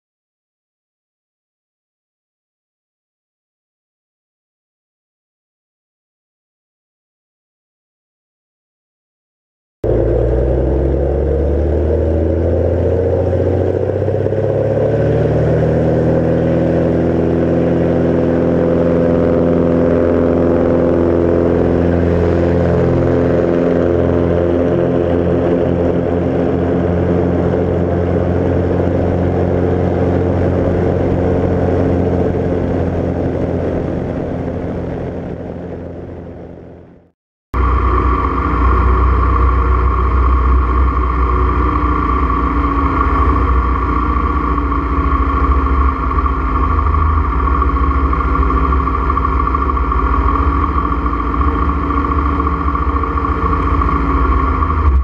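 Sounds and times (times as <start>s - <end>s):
light aircraft engine and propeller: 9.8s - 55.0s.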